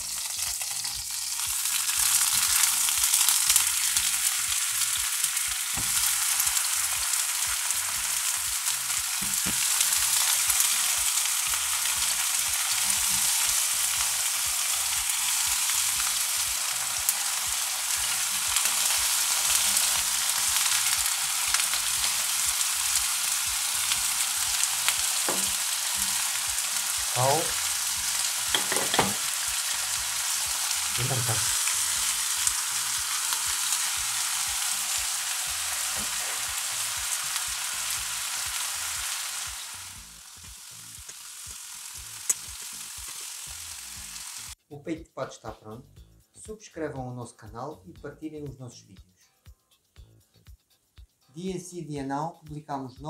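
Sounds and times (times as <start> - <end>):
food sizzling in frying pan: 0.0 - 44.6.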